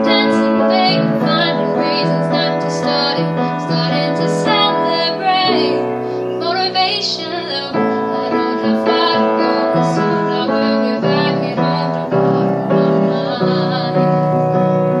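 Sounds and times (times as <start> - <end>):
blues piano chords: 0.0 - 15.0.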